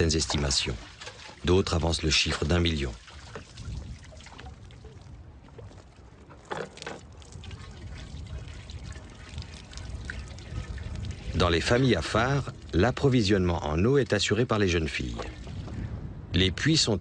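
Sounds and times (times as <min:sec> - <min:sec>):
water pouring into plastic jerrycan: 0:00.0 - 0:13.7.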